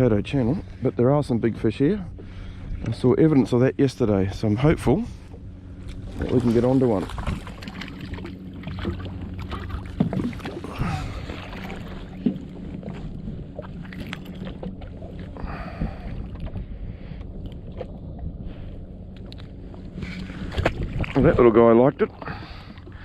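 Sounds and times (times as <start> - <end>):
jet ski engine idling: 0.0 - 20.6
water around hull: 0.0 - 23.0.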